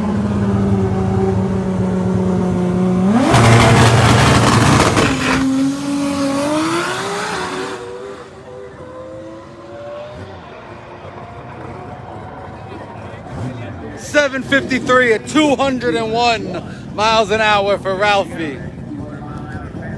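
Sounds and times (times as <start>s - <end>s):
drag race car engine: 0.0s - 19.9s.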